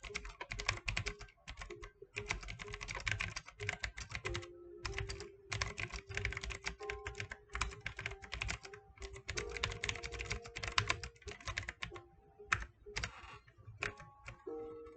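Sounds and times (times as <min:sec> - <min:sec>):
mechanical keyboard key clicks: 0:00.0 - 0:13.2.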